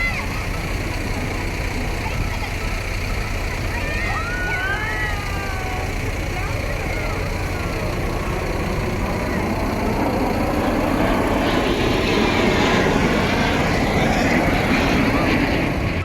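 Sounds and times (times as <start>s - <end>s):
faint voices of onlookers: 0.0s - 16.0s
jet aircraft flying past: 0.0s - 16.0s.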